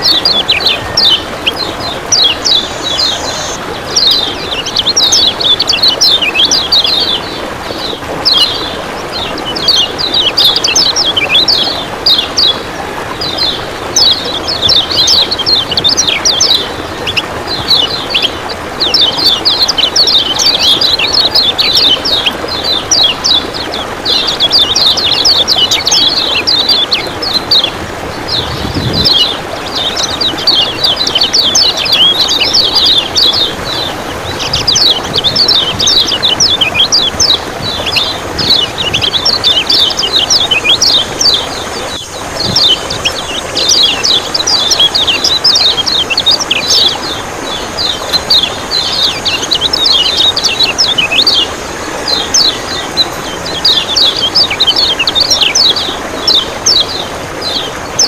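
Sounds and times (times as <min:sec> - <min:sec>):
bird chirping rapidly: 0:00.0 - 0:58.0
running water: 0:00.0 - 0:58.0.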